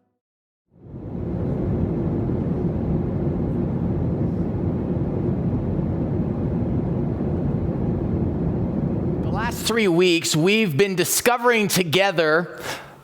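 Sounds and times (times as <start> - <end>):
low rumbling background noise: 0.8 - 11.8.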